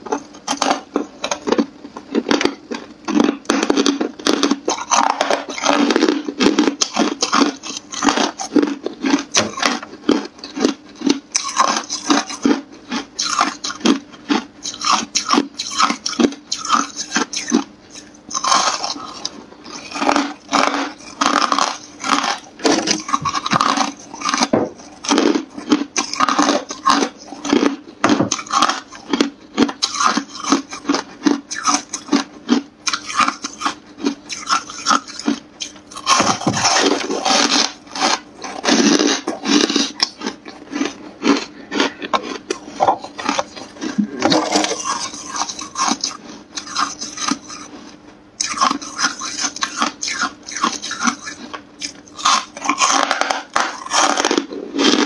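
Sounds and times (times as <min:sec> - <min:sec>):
faint steady hum: 0:00.0 - 0:55.0
ice being chewed: 0:00.0 - 0:55.0.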